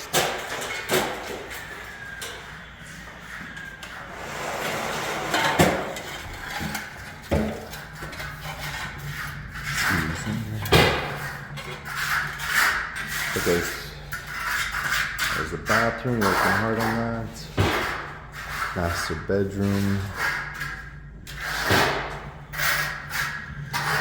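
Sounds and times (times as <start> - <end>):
knocks and scraping: 0.0 - 24.0
rough rubbing noise: 2.7 - 24.0.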